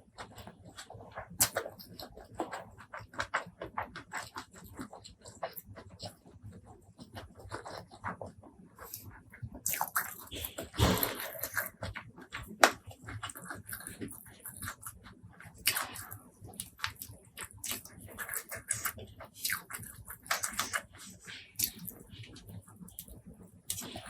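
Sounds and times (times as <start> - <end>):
wet chewing and lip-smacking: 0.0 - 24.0.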